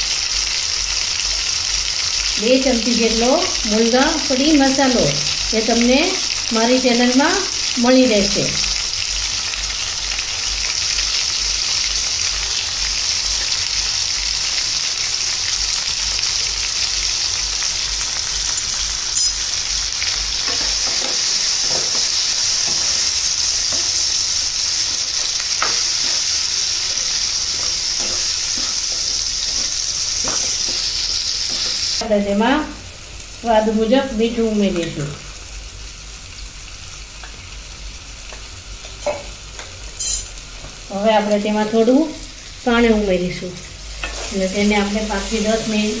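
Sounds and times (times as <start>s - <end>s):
vegetables sizzling in hot oil: 0.0s - 46.0s.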